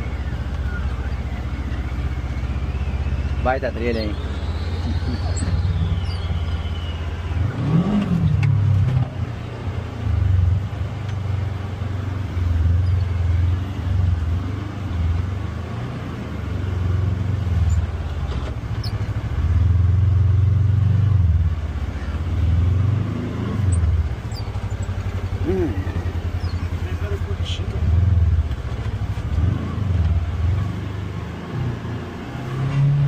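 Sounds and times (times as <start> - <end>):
utv engine revving: 0.0 - 33.0.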